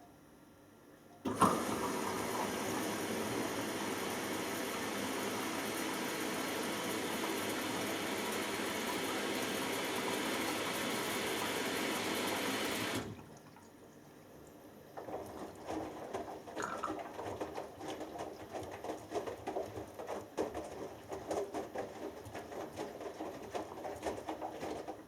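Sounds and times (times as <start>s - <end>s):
water running into washing machine: 1.3s - 13.9s, 14.6s - 25.0s
wet laundry sloshing: 1.3s - 25.0s.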